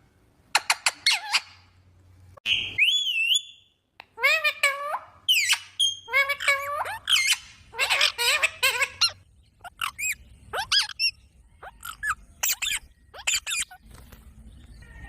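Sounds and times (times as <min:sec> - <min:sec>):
parrot calling: 0:00.6 - 0:01.7, 0:02.4 - 0:13.8.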